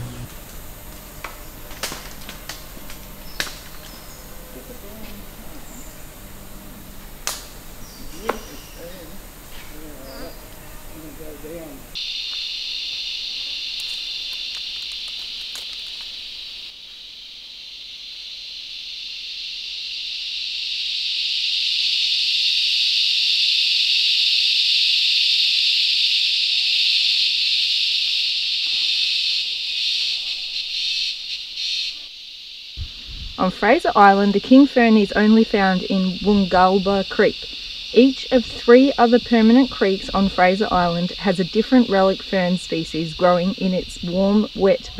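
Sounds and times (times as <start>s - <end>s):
cicadas buzzing: 0.0s - 44.9s.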